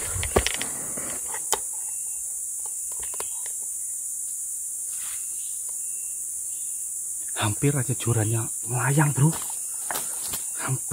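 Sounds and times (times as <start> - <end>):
high-pitched insect drone: 0.0 - 10.9.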